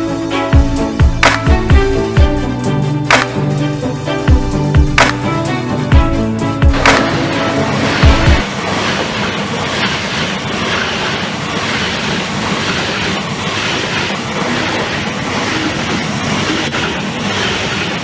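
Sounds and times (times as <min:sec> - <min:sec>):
train wheels on track: 0:00.0 - 0:18.0.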